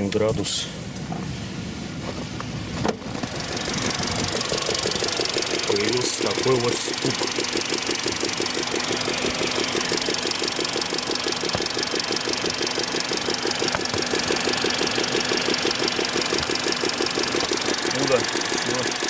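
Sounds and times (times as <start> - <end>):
car engine idling: 0.0 - 19.0
fast even valve ticking: 3.3 - 19.0.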